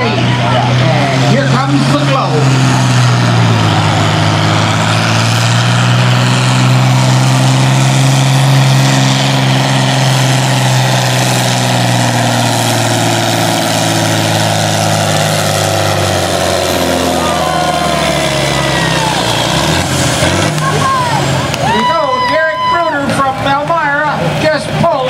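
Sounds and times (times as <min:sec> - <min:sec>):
tractor engine under heavy load: 0:00.0 - 0:25.0.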